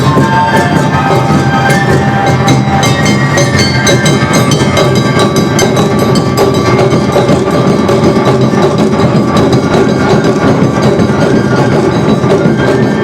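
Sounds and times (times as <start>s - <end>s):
hand gongs clanging: 0.0s - 13.0s
held pitched notes: 0.0s - 13.0s
taiko drums: 0.0s - 13.0s.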